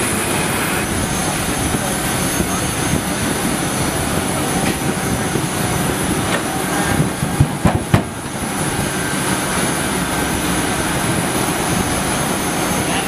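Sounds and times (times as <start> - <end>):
aircraft turbine whine: 0.0 - 13.0.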